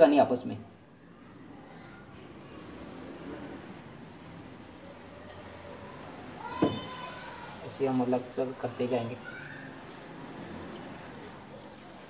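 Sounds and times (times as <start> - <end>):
squishing of wet radish: 1.3 - 12.0
plastic glove rustle: 2.2 - 12.0.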